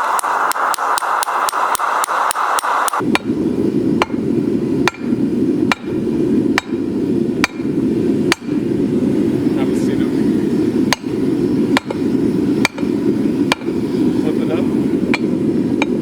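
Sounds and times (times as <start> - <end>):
hammer striking hot steel: 0.0 - 3.4, 4.0 - 8.7, 10.8 - 16.0
steady rushing noise: 0.0 - 16.0.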